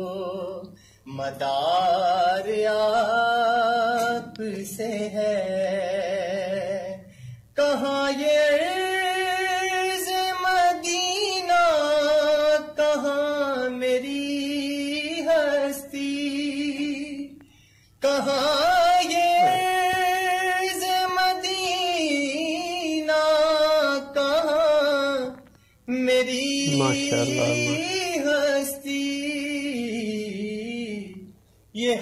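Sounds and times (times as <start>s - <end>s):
man singing unaccompanied: 0.0s - 17.4s, 18.0s - 32.0s.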